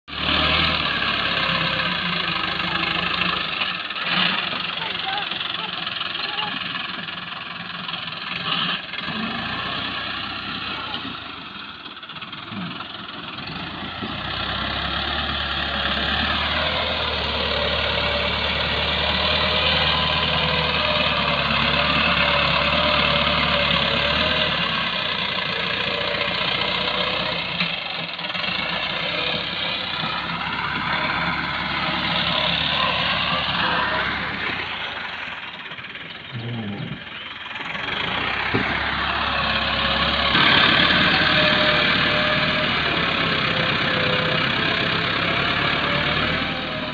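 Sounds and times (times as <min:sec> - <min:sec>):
tractor diesel engine revving: 0:00.0 - 0:46.9.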